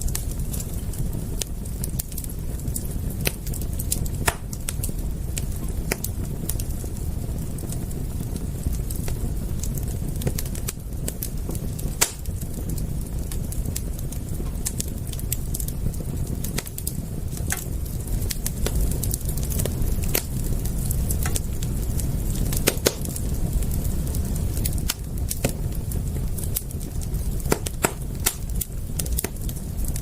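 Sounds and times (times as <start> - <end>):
steady low rumble: 0.0 - 30.0
wood fire crackling: 0.0 - 30.0.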